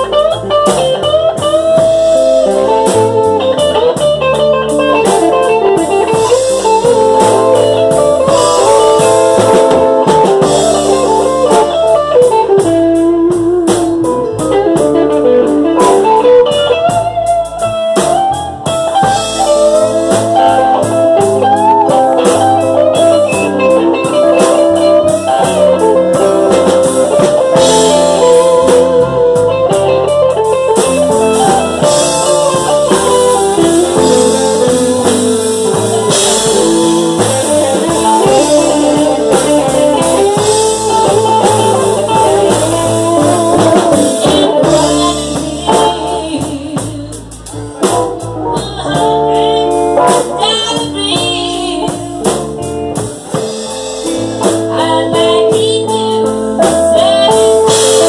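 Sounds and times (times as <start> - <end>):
blues band playing: 0.0 - 58.0
electric guitar lead: 0.0 - 58.0.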